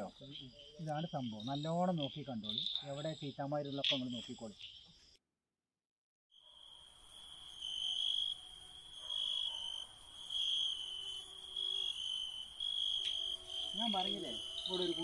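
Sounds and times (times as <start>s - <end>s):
crickets trilling: 0.0s - 5.2s, 6.4s - 15.0s.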